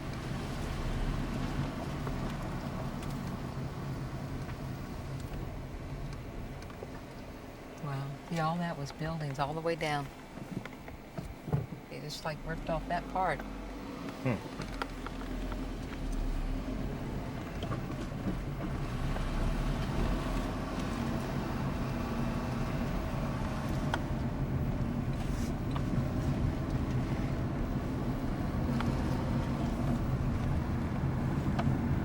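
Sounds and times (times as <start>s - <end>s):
car engine and road hum: 0.0s - 32.0s.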